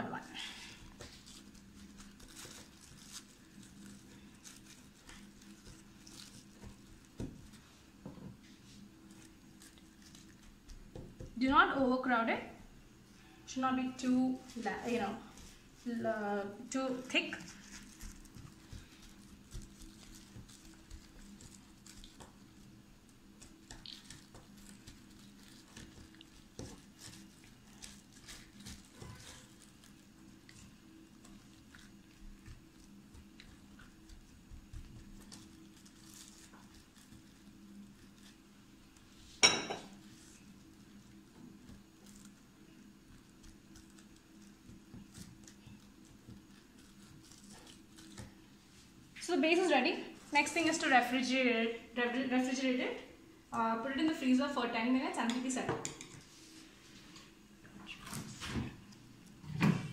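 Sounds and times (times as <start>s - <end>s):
plastic wrap rustling: 0.0s - 12.2s, 13.6s - 51.3s, 56.2s - 59.9s
faint steady hum: 0.0s - 59.9s.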